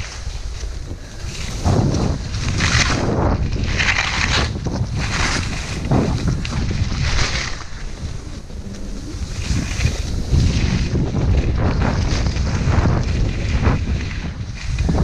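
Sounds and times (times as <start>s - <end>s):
skis carving through snow: 0.0s - 15.0s
wind rumbling on microphone: 0.0s - 15.0s.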